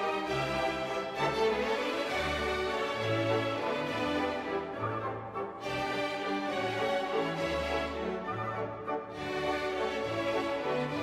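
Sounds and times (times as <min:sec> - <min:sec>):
orchestral strings: 0:00.0 - 0:11.0.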